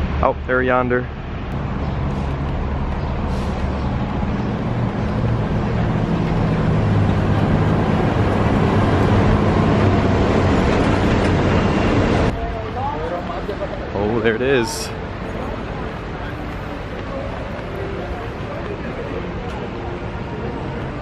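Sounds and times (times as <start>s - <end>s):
monorail train passing overhead: 1.0s - 21.0s.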